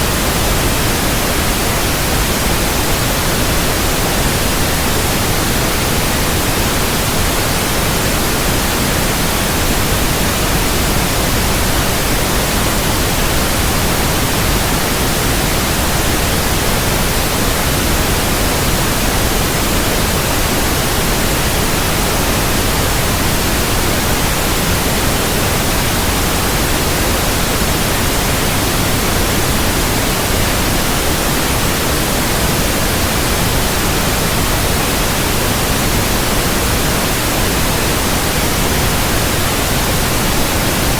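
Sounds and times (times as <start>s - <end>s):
white noise: 0.0s - 40.9s.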